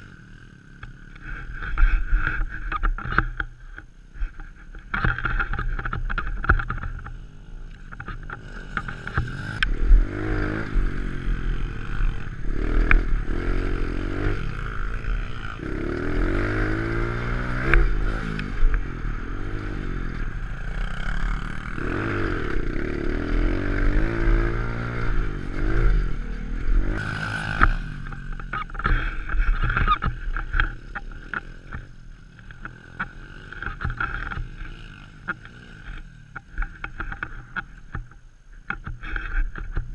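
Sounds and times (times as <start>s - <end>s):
pit bike engine revving: 4.9s - 37.6s.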